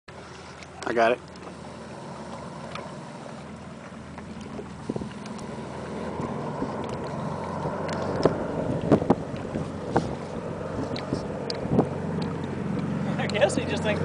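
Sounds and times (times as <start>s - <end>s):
propeller plane engines droning: 0.1s - 14.0s.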